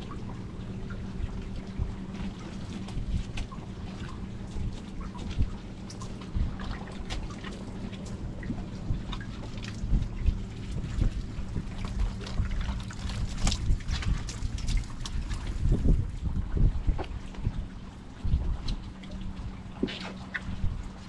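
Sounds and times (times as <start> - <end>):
low hum: 0.0 - 21.0
water trickling and splashing: 0.0 - 21.0
wind buffeting microphone: 0.0 - 21.0.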